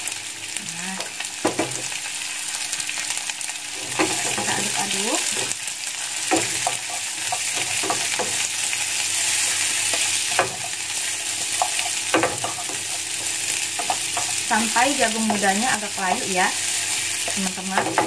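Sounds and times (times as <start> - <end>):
vegetables sizzling in a frying pan: 0.0 - 18.0.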